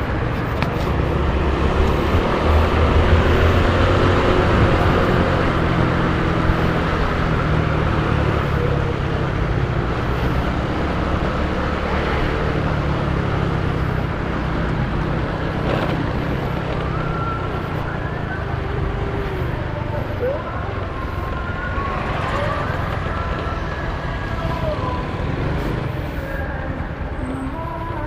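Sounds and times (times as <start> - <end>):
diesel bus engine rumbling: 0.0 - 28.0.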